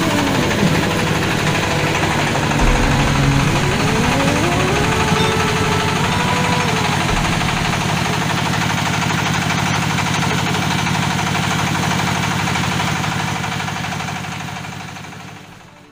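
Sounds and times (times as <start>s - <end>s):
machine engine pulsing: 0.0s - 15.9s.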